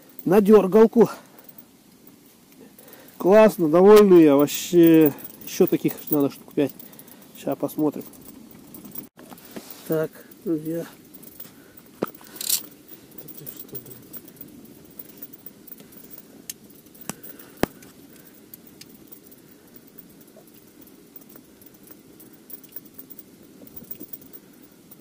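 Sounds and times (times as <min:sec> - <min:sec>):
fishing rod handling rustle: 0:01.0 - 0:25.0.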